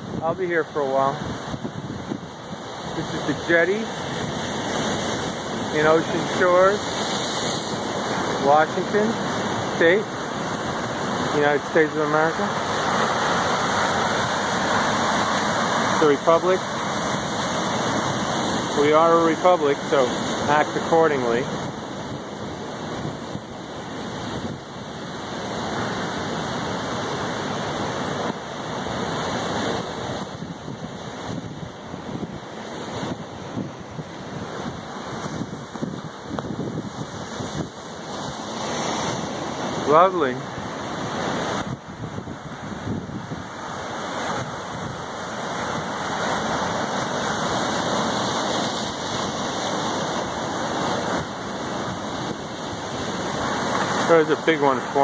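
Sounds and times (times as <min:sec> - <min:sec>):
surf breaking on rocks: 0:00.0 - 0:55.0.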